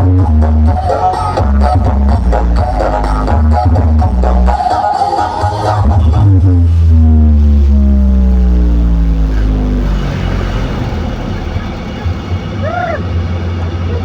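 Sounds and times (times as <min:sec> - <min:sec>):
deep tone gliding downward: 0:00.0 - 0:14.0
low bass rumble: 0:00.0 - 0:14.0.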